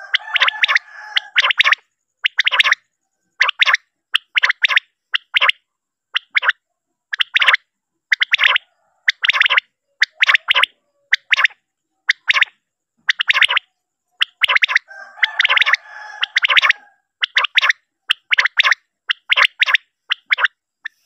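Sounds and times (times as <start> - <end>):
quail calls: 0.0 - 21.0.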